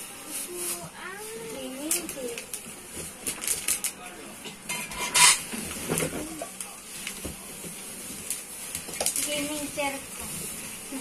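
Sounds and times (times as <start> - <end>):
plastic wrapping rustling: 0.0 - 11.0.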